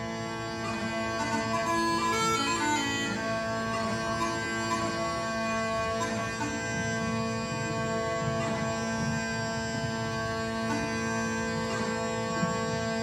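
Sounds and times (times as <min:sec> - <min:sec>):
bagpipe chanter melody: 0:00.0 - 0:13.0
bagpipe drones: 0:00.0 - 0:13.0.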